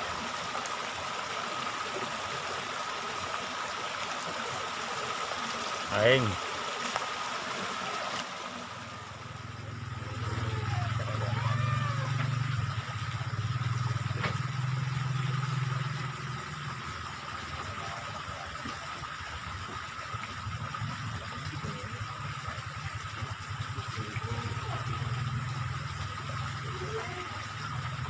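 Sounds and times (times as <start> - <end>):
water running in a ditch: 0.0 - 28.0.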